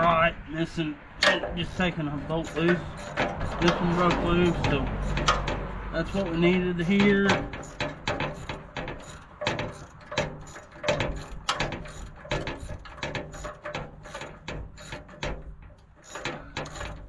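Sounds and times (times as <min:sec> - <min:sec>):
ratchet wrench clicking: 0:01.2 - 0:15.4.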